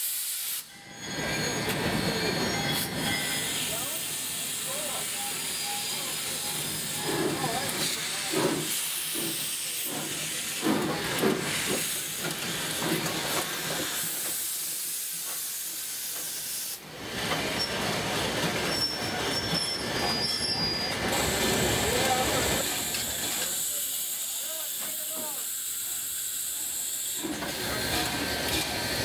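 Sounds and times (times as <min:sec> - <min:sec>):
steam hissing from locomotive: 0:00.0 - 0:29.0
steam locomotive exhaust chuffs: 0:00.0 - 0:29.0
train cars rattling on rails: 0:00.7 - 0:29.0.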